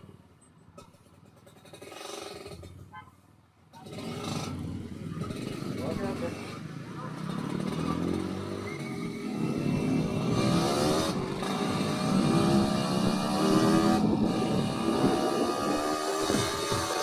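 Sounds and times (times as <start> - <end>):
motorcycle two-stroke engine revving: 1.2 - 2.9, 3.8 - 17.0.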